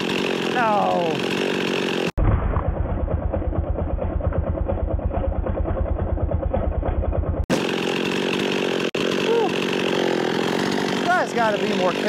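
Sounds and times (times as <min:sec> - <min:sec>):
chainsaw running with high whine: 0:00.0 - 0:02.2, 0:03.0 - 0:12.0
chainsaw engine idling: 0:00.0 - 0:12.0.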